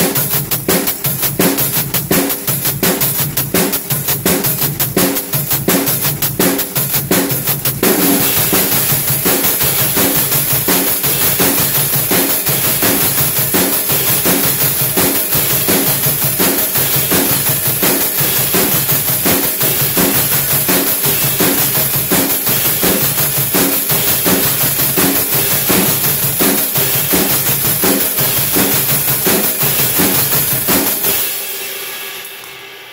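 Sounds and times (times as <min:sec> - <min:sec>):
hi-hat ticking: 0:00.0 - 0:31.4
drum-kit beat: 0:00.0 - 0:32.9.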